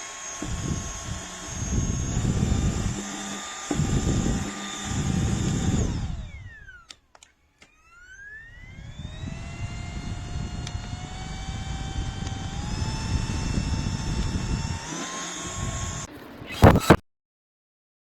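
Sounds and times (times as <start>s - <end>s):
fan motor whining: 0.0s - 17.0s.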